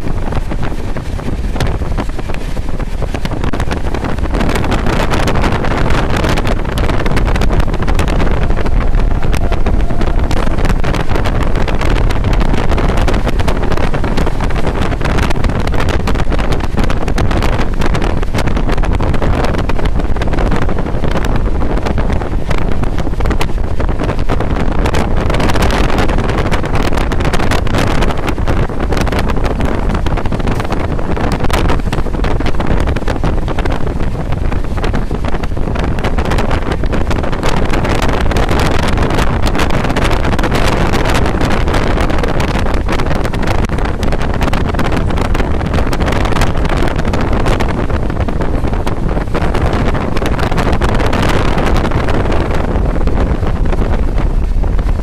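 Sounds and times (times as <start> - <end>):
train carriage running on track: 0.0 - 55.0
wind buffeting microphone: 0.0 - 55.0.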